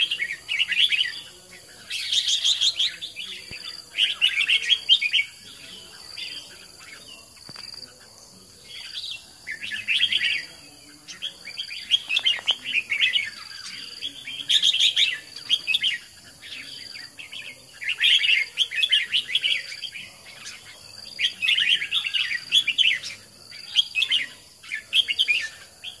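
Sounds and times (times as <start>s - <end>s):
bird chirping song: 0.0s - 26.0s.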